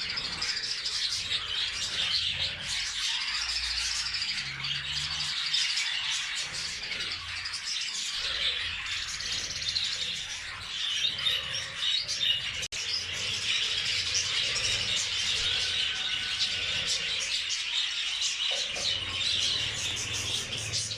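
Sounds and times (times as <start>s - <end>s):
budgerigars chattering: 0.0s - 20.9s.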